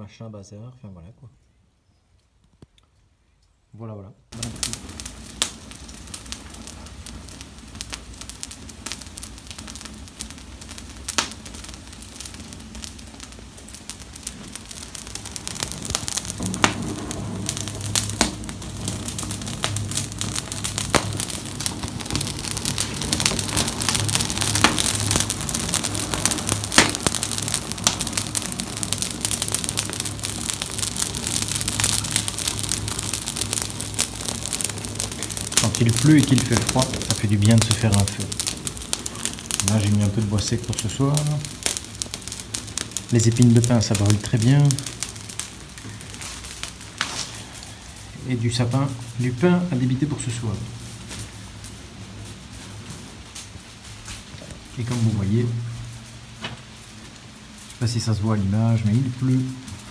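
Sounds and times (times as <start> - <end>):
wood fire crackling and popping: 4.3 - 59.9.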